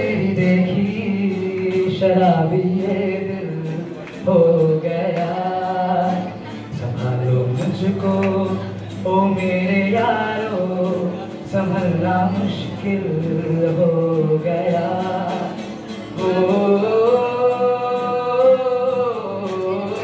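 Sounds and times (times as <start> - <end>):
acoustic guitar: 0.0 - 20.0
man singing into microphone: 0.0 - 20.0.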